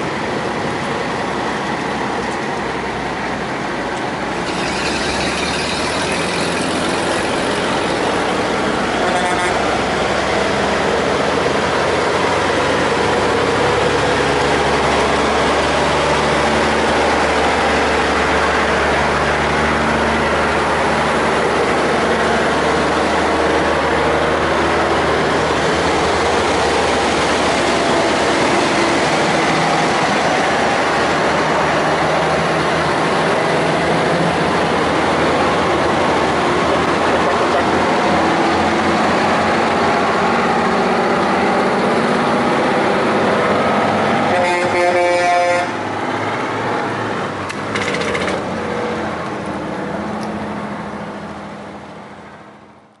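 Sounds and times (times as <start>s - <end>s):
trucks driving past: 0.0s - 53.0s.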